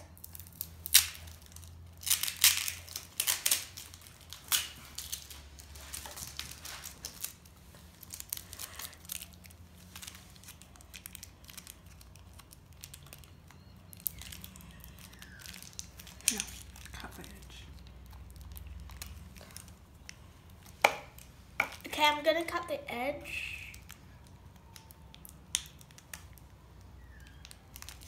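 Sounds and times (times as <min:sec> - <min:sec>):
plastic packaging crinkling: 0:00.0 - 0:22.0, 0:23.7 - 0:28.0.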